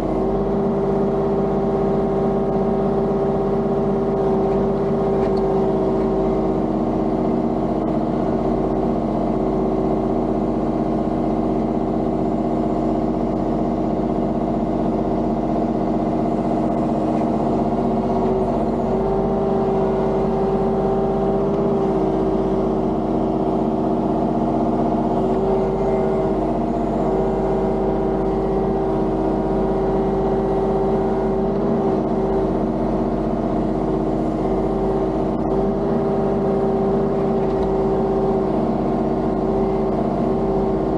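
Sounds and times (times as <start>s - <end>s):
diesel excavator engine running: 0.0s - 40.9s.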